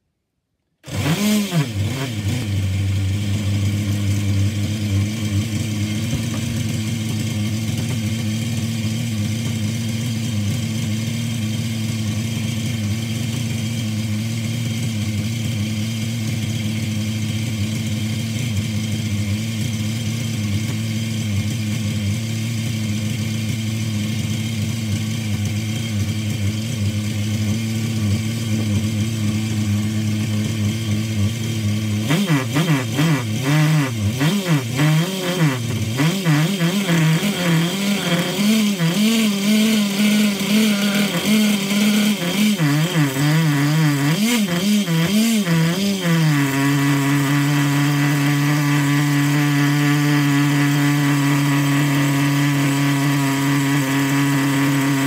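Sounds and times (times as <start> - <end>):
small two-stroke engine running: 0.8 - 55.0.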